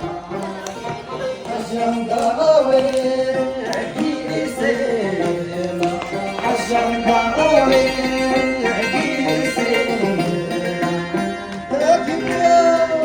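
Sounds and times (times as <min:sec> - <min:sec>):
folk music: 0:00.0 - 0:13.0.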